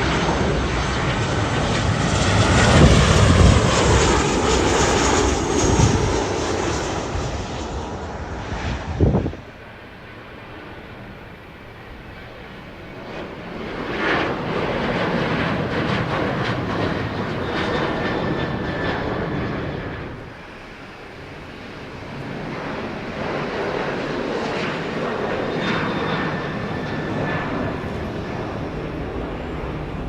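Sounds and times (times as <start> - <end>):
jet engines with turbine whine: 0.0 - 30.0.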